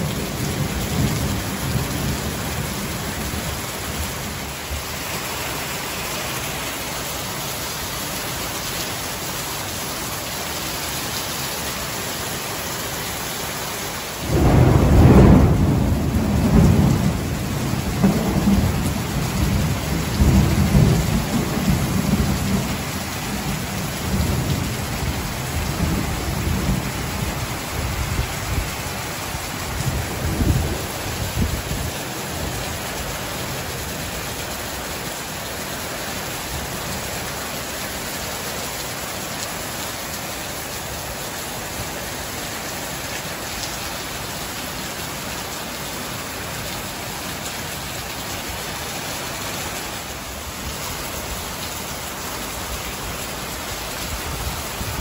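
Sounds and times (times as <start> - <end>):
heavy rain on a patio: 0.0 - 55.0.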